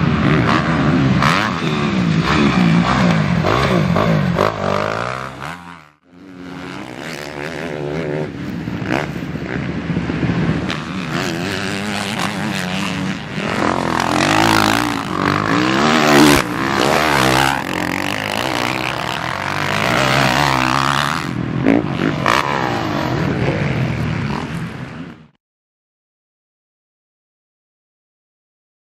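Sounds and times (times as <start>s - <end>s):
motocross bike engines revving: 0.0s - 25.3s.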